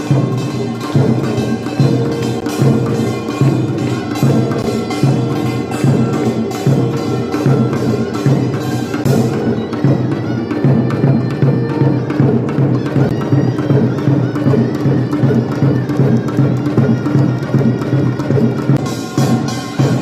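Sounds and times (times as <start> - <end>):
fast drum and gong strokes: 0.0 - 20.0.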